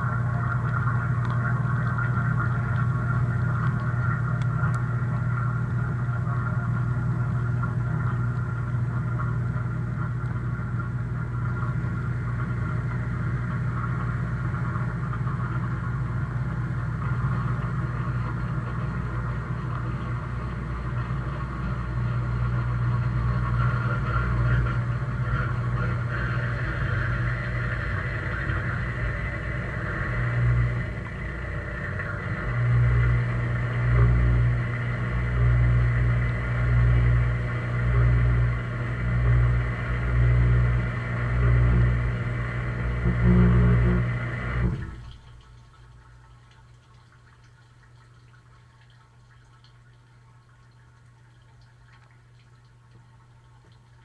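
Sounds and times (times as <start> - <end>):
dishwasher pump humming: 0.0 - 54.0.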